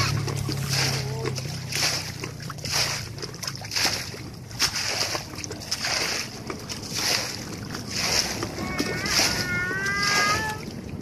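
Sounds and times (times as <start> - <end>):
hands splashing muddy water: 0.0 - 11.0.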